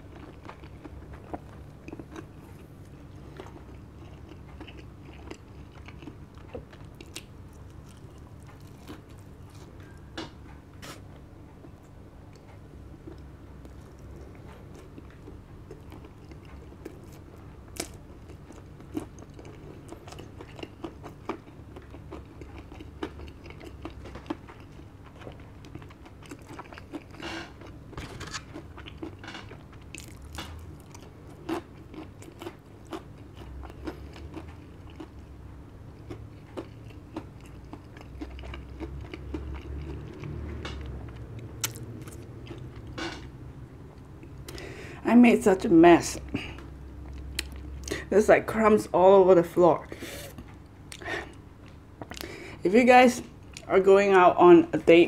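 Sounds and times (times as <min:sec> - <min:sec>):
chewing crispy fried chicken: 0:00.0 - 0:11.1, 0:11.7 - 0:43.3, 0:46.2 - 0:48.1.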